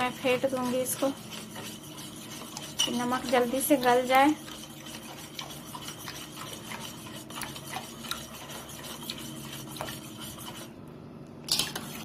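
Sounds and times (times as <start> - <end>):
spoon scraping steel bowl: 0.0 - 10.7, 11.5 - 12.0.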